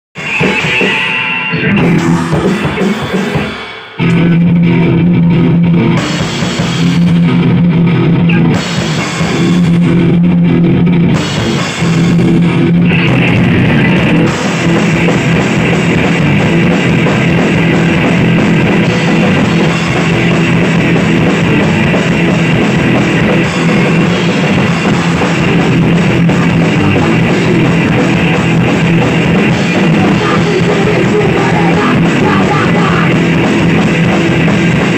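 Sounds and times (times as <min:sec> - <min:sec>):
bass guitar: 0:00.1 - 0:34.9
drum kit: 0:00.2 - 0:34.9
electric guitars: 0:00.2 - 0:34.9.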